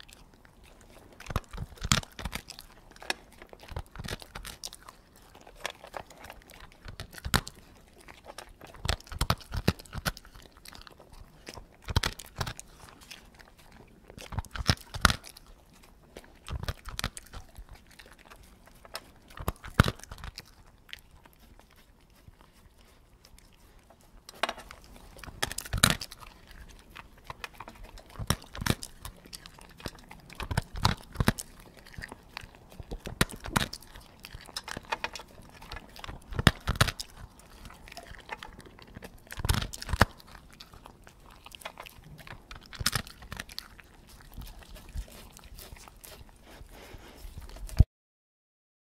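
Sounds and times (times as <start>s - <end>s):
dog chewing food: 0.0s - 47.9s.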